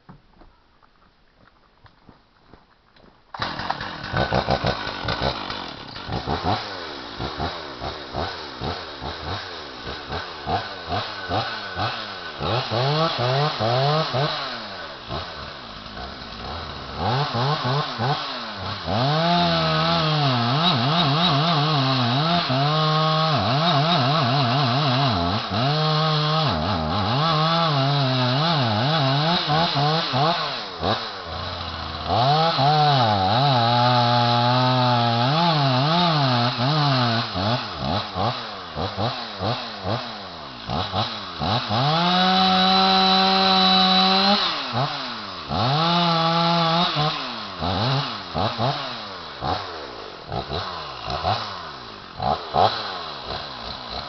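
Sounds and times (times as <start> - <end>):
chainsaw revving and cutting tree: 3.3 - 54.0.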